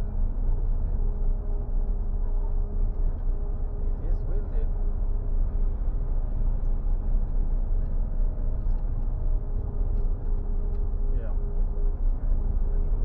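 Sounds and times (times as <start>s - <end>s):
faint steady drone: 0.0s - 13.0s.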